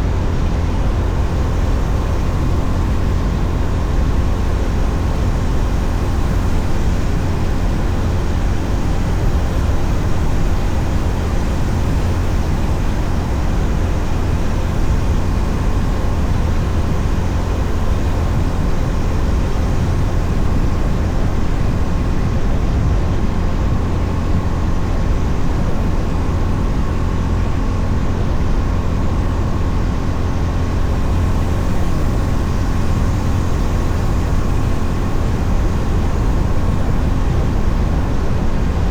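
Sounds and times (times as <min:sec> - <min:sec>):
motorcycle engine drone: 0:00.0 - 0:38.9
wind noise on microphone: 0:00.0 - 0:38.9.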